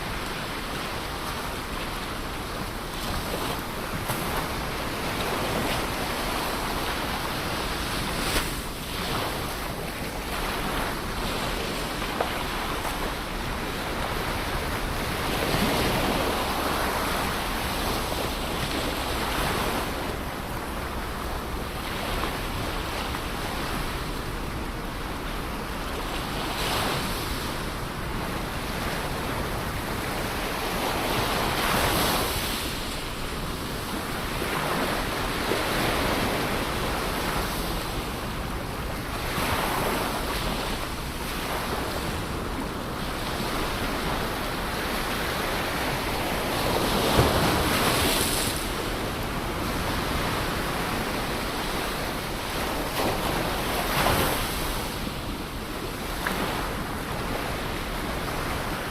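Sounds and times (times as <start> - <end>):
ocean surf washing ashore: 0.0 - 58.9.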